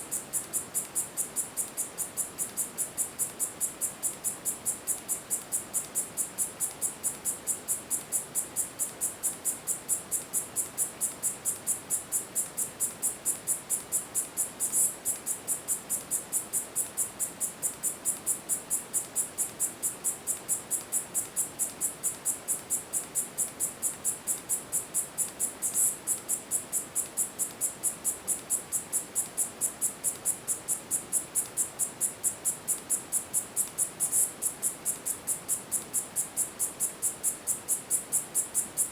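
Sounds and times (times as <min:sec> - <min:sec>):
cicada calling in pulses: 0:00.1 - 0:38.9.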